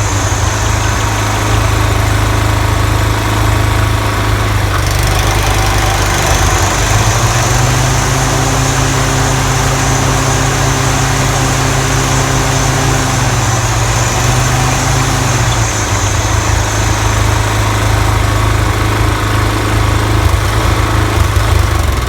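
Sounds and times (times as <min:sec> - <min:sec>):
lawn mower running: 0:00.0 - 0:22.0.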